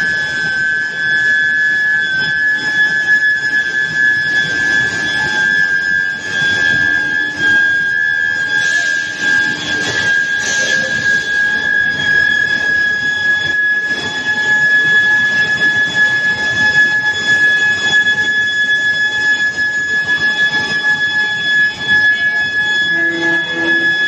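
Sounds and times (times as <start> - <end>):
furnace high-pitched whine: 0.0 - 24.0.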